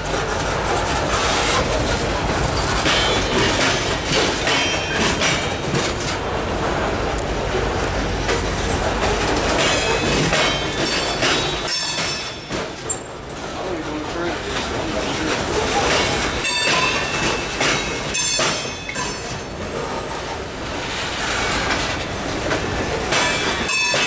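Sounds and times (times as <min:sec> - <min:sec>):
train wheels clattering over rails: 0:00.0 - 0:24.0.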